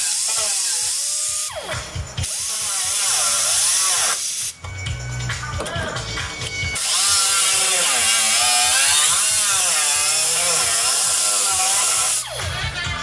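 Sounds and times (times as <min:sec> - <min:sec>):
power tool cutting sheet metal: 0:00.0 - 0:04.6, 0:05.5 - 0:12.5
background music with steady beat: 0:00.0 - 0:13.0.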